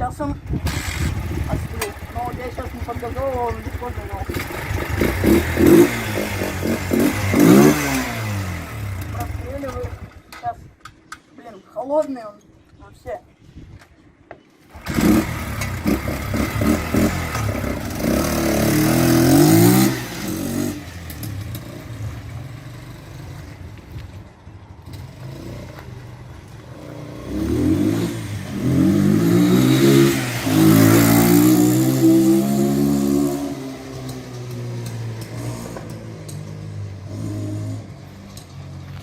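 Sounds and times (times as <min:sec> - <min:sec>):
motorcycle engine revving: 0:00.0 - 0:10.3, 0:14.7 - 0:24.1, 0:24.7 - 0:39.0.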